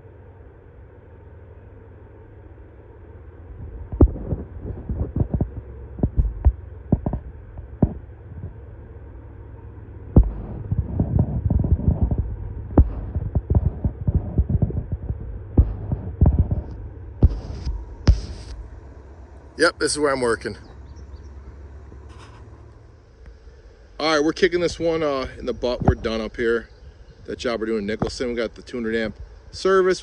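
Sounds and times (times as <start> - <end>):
freight train rumbling: 2.4 - 30.0.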